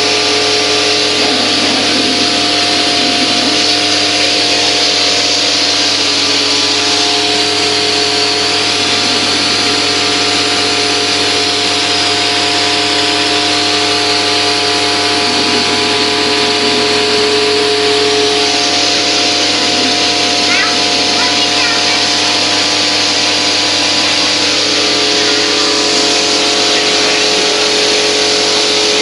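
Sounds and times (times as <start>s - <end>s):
car wash motor hum: 0.0s - 29.0s.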